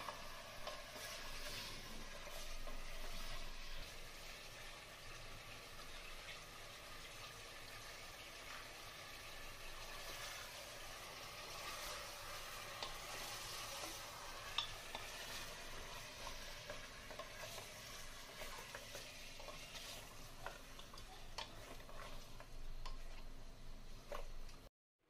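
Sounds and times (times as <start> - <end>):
food sizzling in oil: 0.0 - 24.7.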